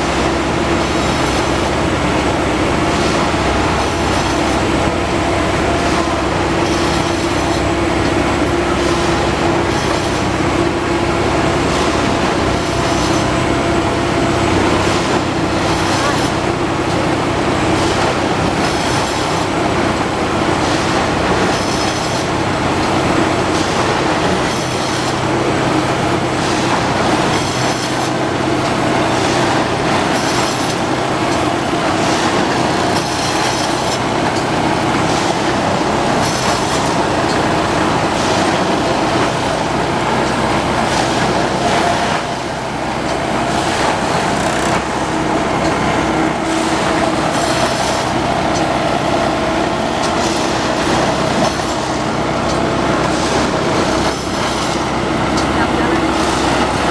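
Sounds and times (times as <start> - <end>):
engine and hydraulic drone: 0.0 - 56.9.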